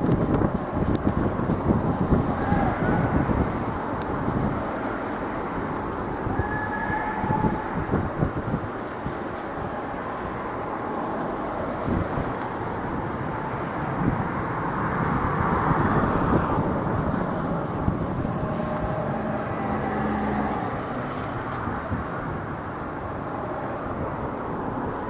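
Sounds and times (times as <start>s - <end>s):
electric train rolling: 0.0s - 25.0s.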